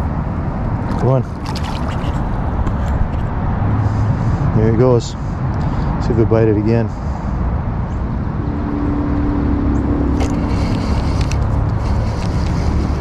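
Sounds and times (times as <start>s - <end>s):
road traffic rumble: 0.0s - 13.0s
vehicle engine hum: 0.0s - 13.0s.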